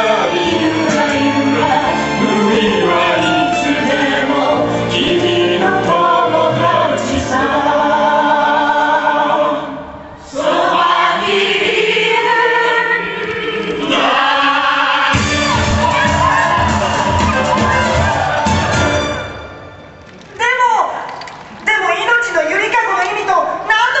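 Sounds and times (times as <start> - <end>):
choir singing with instruments: 0.0 - 20.0.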